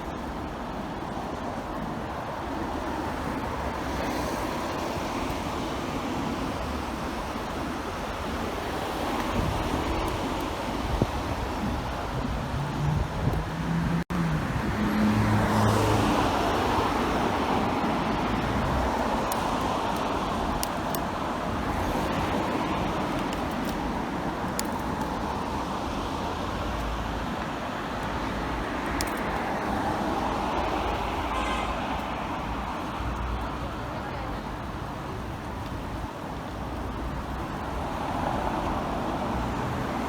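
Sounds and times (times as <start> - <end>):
passing cars and road noise: 0.0 - 40.0.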